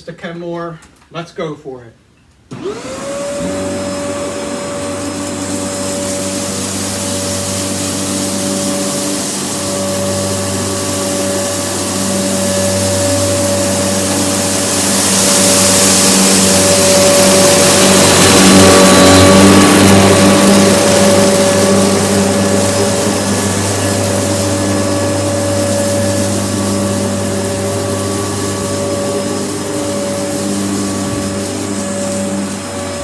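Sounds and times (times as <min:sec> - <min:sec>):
upright vacuum cleaner running: 0:02.5 - 0:33.0.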